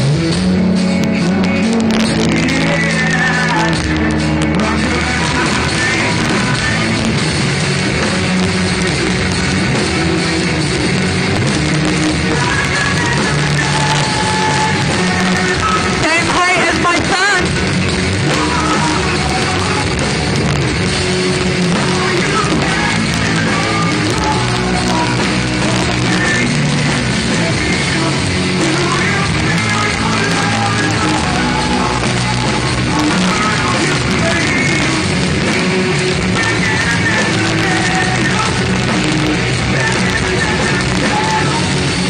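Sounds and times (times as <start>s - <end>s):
live rock band playing loud: 0.0s - 42.0s.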